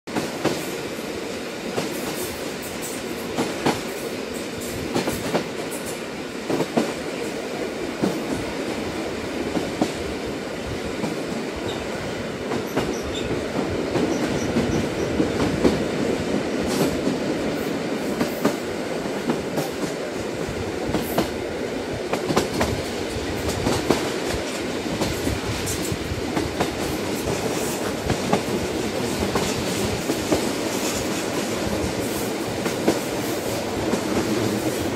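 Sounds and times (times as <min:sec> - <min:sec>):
train rumbling on rails: 0:00.1 - 0:34.9.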